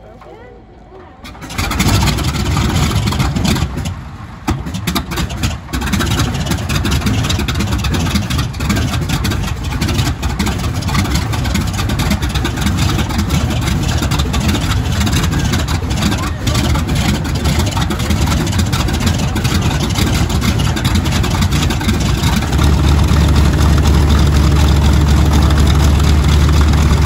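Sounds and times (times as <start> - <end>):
radial aircraft engine running: 1.2 - 27.0.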